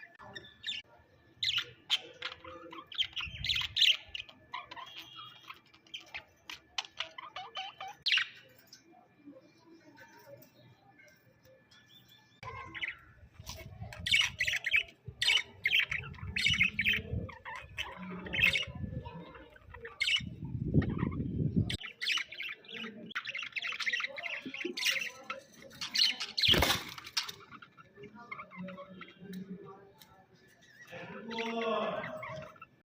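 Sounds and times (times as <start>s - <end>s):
budgerigars chirping and squawking: 0.0s - 9.0s, 12.4s - 29.4s, 30.4s - 32.8s.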